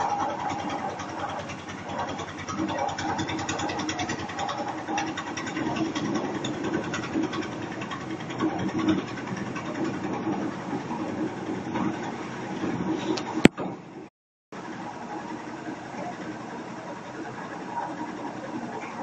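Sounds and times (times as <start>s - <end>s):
concrete mixer engine running: 0.0s - 19.0s.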